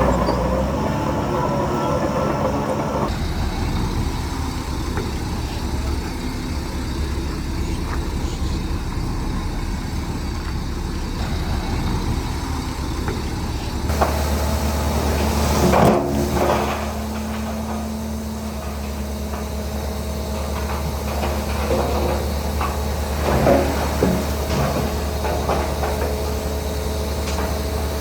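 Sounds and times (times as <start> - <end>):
clatter: 0.0 - 28.0
heavy diesel engine running: 0.0 - 28.0.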